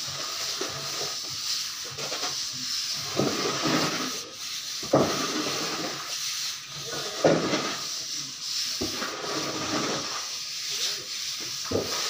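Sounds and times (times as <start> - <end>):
trowel scraping plaster: 1.9 - 12.0.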